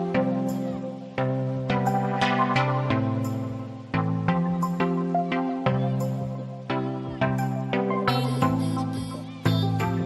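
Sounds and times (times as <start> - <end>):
soft new-age instrumental music: 0.0 - 10.0.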